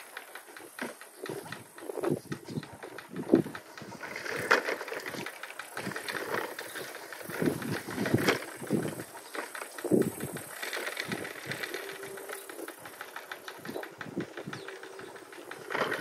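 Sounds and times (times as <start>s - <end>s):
plastic toy cart rattling: 0.0s - 16.0s.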